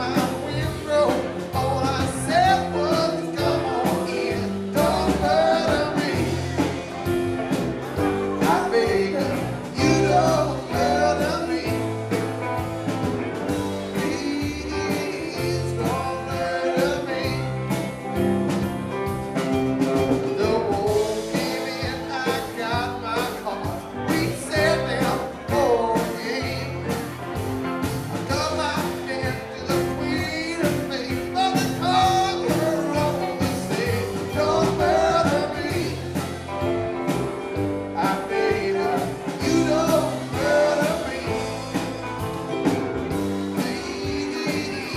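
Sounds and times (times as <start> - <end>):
person singing: 0.0 - 12.6, 13.5 - 18.2, 19.8 - 27.2, 28.1 - 36.8, 37.8 - 44.9
bass guitar: 0.0 - 44.9
drums: 0.0 - 44.9
electric guitars: 0.0 - 44.9
keyboards: 0.0 - 44.9.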